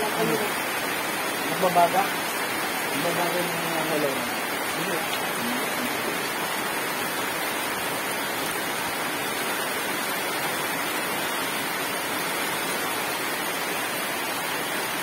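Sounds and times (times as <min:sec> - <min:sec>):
rain on a metal roof: 0:00.0 - 0:15.0.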